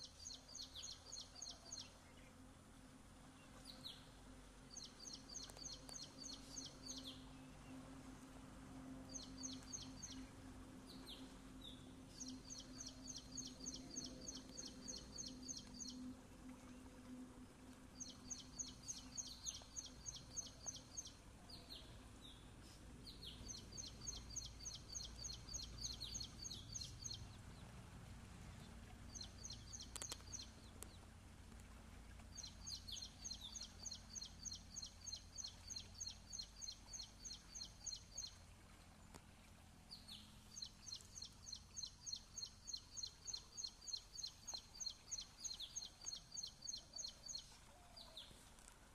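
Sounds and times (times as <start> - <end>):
songbird singing: 0.0 - 2.4, 3.2 - 48.8.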